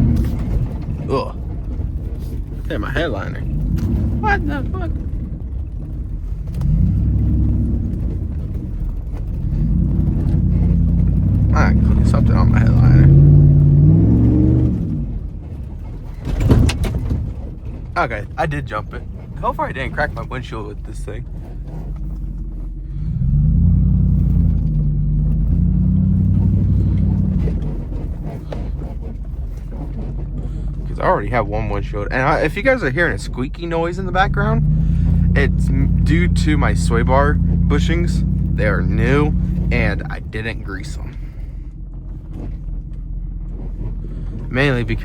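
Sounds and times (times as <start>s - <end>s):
pickup engine revving: 0.0s - 45.0s.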